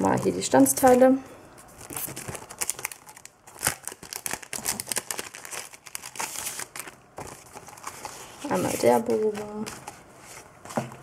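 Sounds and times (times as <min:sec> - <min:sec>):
card rustling and crinkling: 0:01.6 - 0:11.0.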